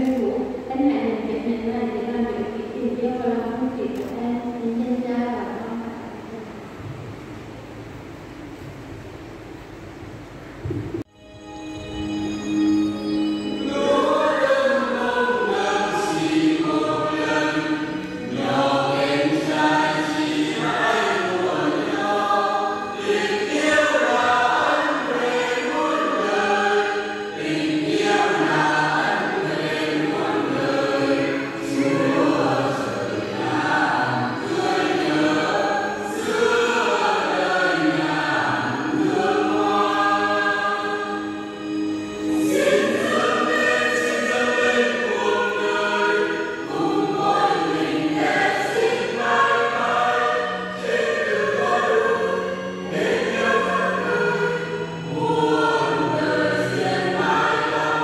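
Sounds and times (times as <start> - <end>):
choir singing a hymn: 0.0 - 6.1, 11.4 - 58.0.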